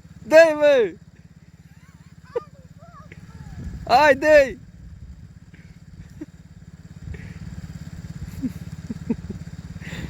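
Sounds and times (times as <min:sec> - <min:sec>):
small four-stroke engine running: 0:00.0 - 0:10.0.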